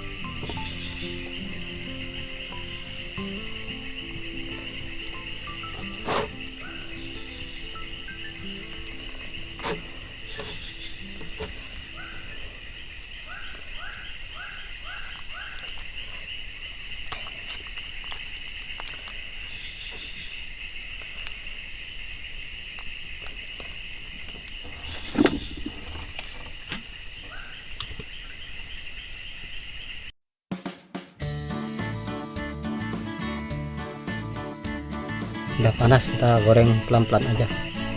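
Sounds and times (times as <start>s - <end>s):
crickets chirping: 0.0s - 30.1s, 32.8s - 37.9s.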